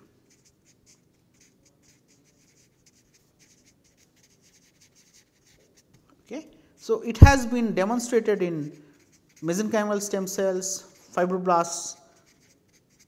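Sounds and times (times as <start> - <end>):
marker pen scratching on paper: 0.2 - 6.0, 6.8 - 13.0.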